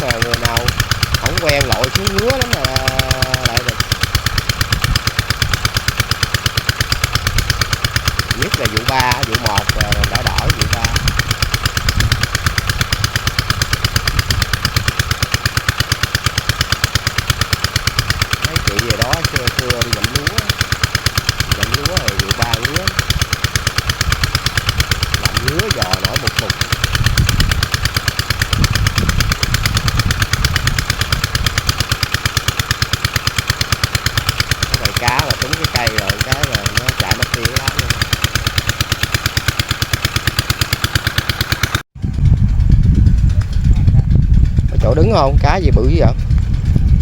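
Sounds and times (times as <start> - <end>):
small boat engine chugging: 0.0 - 47.0.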